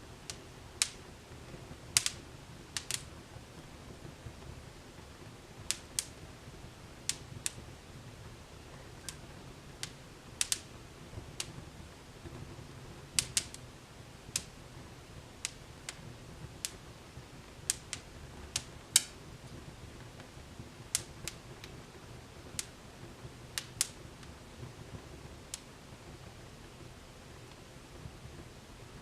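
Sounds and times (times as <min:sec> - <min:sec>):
hiss of burning fire: 0:00.0 - 0:29.0
wood fire crackling: 0:00.0 - 0:29.0.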